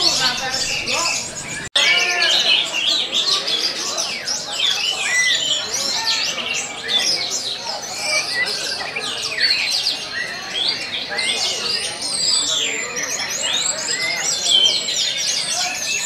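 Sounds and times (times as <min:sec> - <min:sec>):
thrushes singing: 0:00.0 - 0:16.0.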